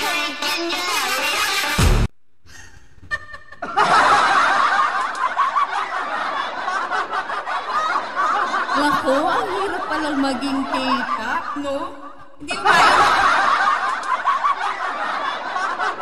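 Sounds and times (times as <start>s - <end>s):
woman laughing heartily: 2.5s - 16.0s.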